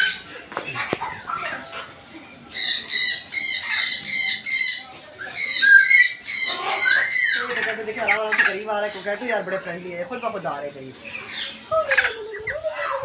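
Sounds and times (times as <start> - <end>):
cockatoos screeching: 0.0 - 9.6, 11.0 - 13.0.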